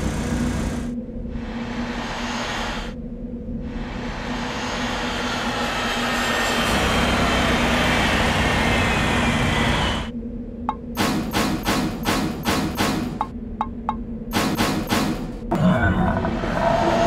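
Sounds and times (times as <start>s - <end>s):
propeller plane engine droning: 0.0s - 15.5s.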